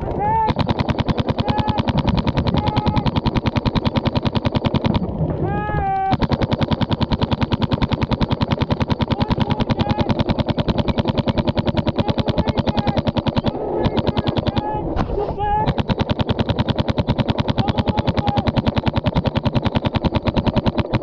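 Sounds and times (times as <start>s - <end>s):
paintball markers firing rapidly: 0.3s - 21.0s.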